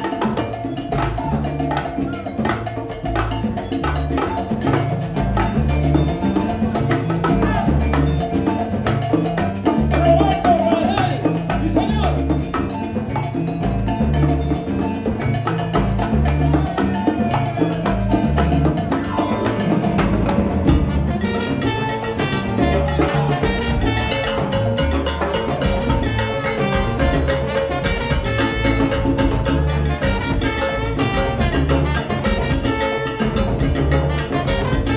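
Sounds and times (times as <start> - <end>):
bongos: 0.0 - 34.9
cowbell striking: 0.0 - 34.9
salsa band playing: 0.0 - 34.9.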